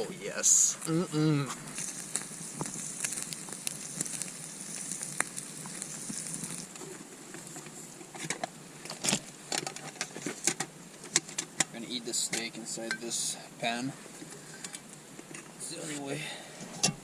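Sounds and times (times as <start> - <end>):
steak sizzling over fire: 0.3 - 16.2
fire pops and crackles: 0.4 - 16.0.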